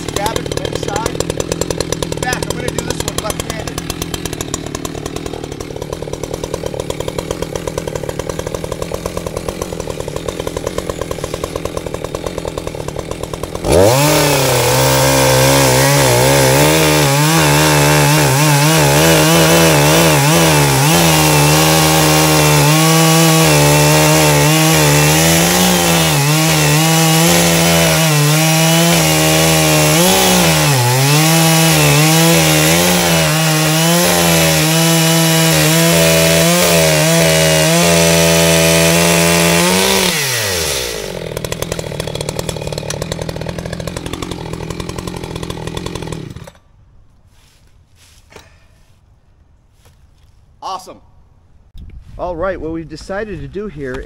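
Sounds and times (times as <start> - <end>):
chainsaw idling: 0.0 - 46.8
chainsaw cutting wood: 0.0 - 48.9.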